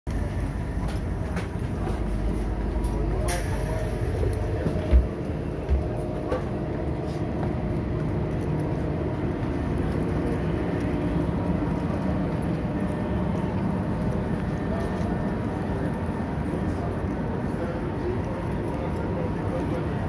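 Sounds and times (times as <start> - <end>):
train rumble and hum: 0.1 - 20.0.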